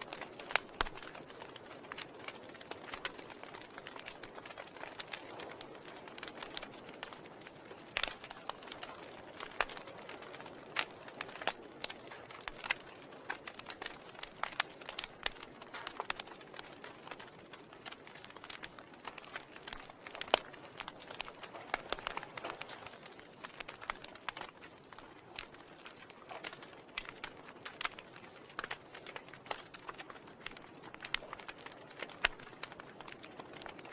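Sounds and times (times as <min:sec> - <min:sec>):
soft hiss of flames: 0:00.0 - 0:33.9
wood fire crackling and popping: 0:00.0 - 0:33.9.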